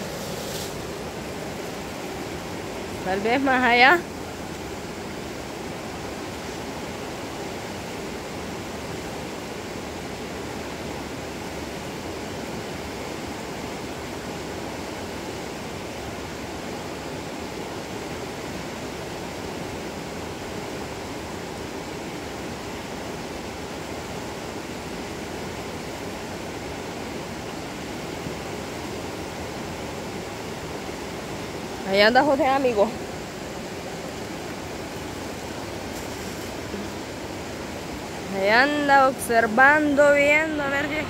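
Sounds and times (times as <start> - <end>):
river flowing over rocks: 0.0 - 41.0.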